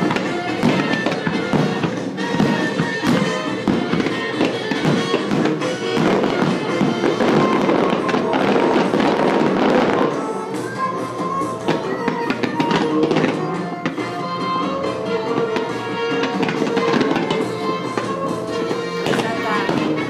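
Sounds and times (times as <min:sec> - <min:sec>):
fireworks bangs and crackling: 0:00.0 - 0:20.0
music: 0:00.0 - 0:20.0.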